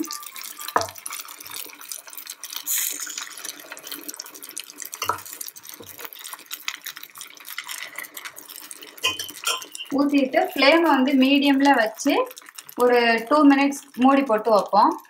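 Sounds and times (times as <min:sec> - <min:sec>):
batter sizzling in hot pan: 0:00.0 - 0:15.0.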